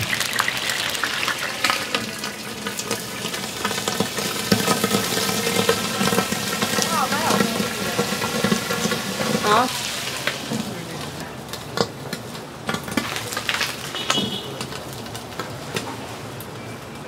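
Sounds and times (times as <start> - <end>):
buns sizzling in a frying pan: 0.0 - 16.5.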